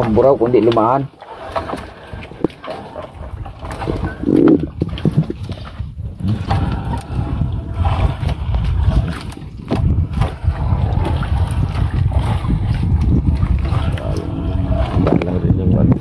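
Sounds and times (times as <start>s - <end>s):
water splashing around boat: 0.0s - 16.0s
low rumble: 1.8s - 16.0s.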